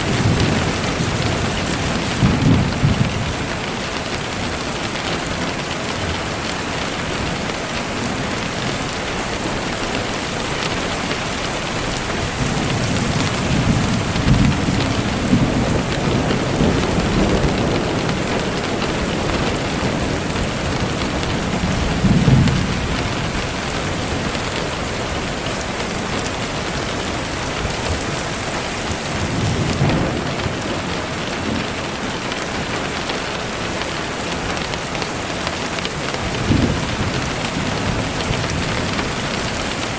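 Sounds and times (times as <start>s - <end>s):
rolling thunder: 0.0s - 5.6s, 10.8s - 33.2s, 35.7s - 39.9s
heavy rain: 0.0s - 39.9s.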